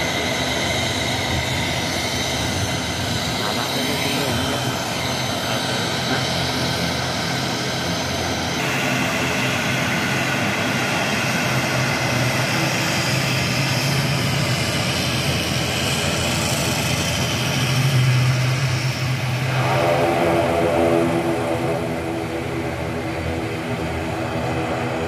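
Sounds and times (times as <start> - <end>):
high engine whine: 0.0 - 25.0
turboprop engine drone: 0.0 - 25.0.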